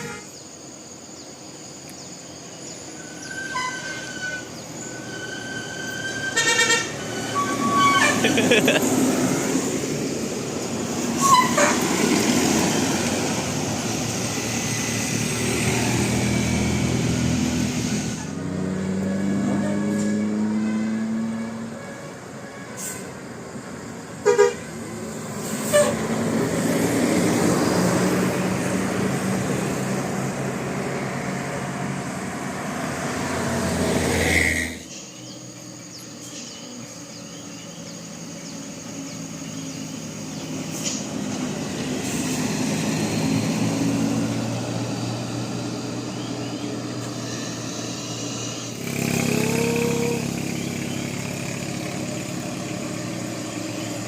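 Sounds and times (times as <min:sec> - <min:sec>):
bus engine passing close: 0:00.0 - 0:54.0
passing traffic: 0:00.0 - 0:54.0.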